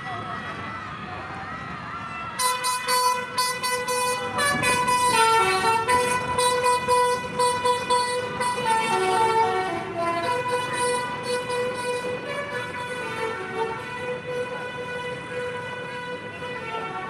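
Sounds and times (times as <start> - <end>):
multi-tone bus horn tune: 2.4 - 17.0.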